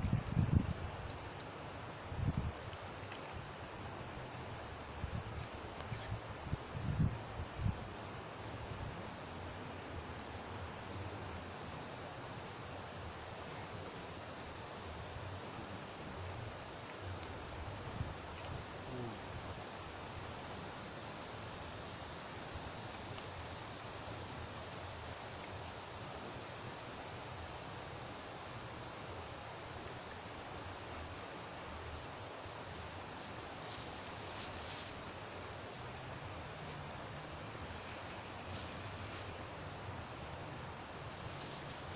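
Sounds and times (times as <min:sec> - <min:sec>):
background hiss: 0:00.0 - 0:41.9
insects trilling: 0:00.0 - 0:41.9.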